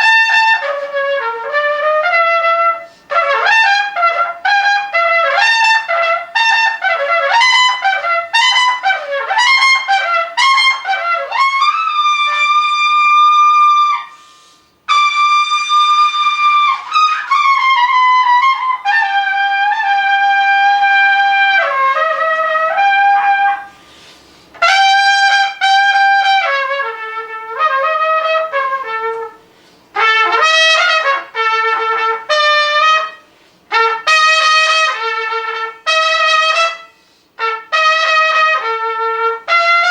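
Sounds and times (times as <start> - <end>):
trumpet solo: 0.0 - 39.9.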